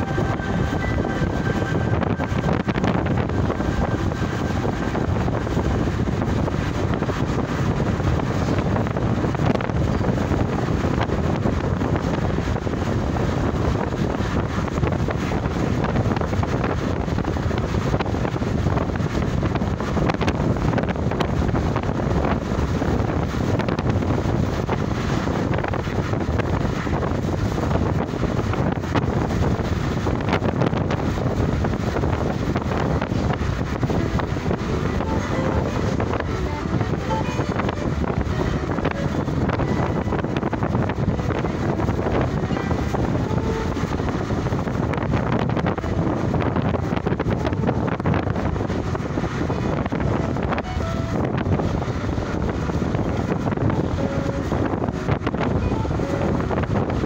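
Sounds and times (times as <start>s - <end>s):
road noise from moving vehicle: 0.0s - 57.0s
wind buffeting microphone: 0.0s - 57.0s.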